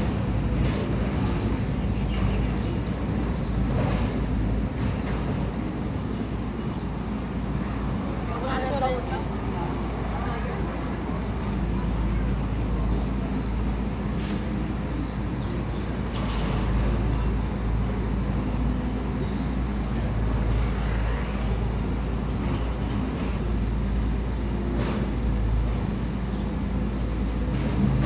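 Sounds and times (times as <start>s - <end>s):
heavy machine engine running: 0.0s - 6.4s, 10.6s - 28.0s.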